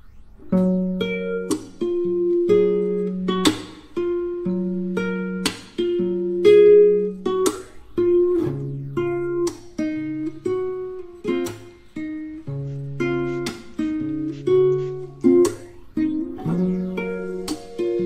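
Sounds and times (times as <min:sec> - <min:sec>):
strummed string instrument music: 0:00.4 - 0:18.0.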